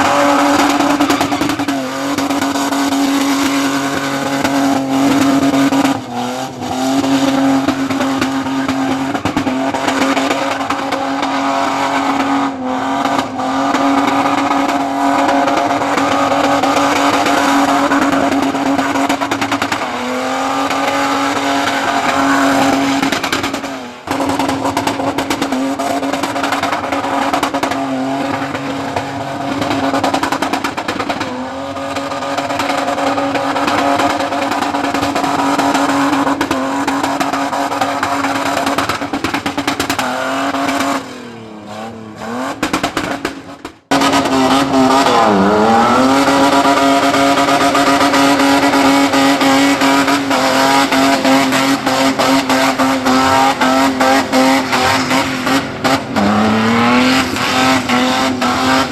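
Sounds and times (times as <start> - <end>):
car engine revving high: 0.0 - 58.9.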